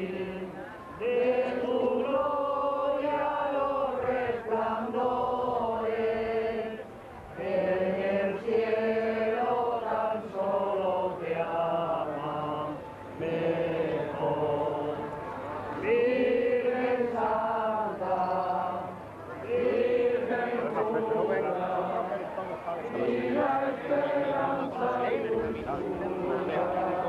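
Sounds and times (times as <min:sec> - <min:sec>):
voices singing: 0:00.0 - 0:27.0.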